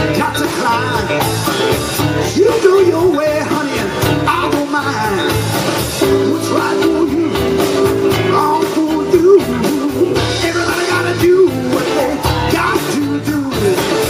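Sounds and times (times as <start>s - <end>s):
live blues band playing: 0.0s - 14.0s.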